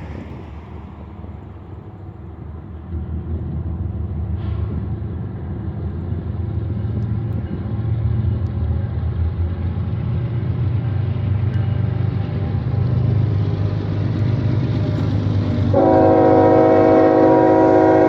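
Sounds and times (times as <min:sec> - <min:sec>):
locomotive engines droning: 0:00.0 - 0:18.0.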